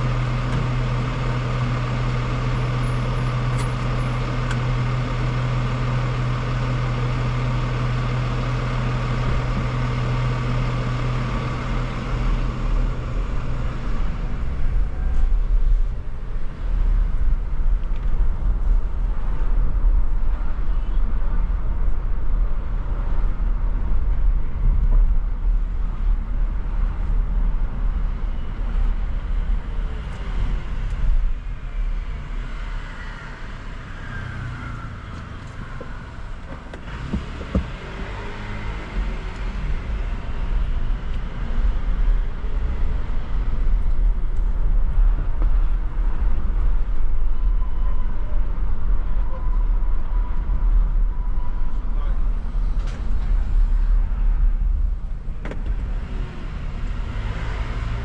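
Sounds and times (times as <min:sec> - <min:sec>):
car driving: 0:00.0 - 0:58.0
road and engine noise: 0:00.0 - 0:58.0.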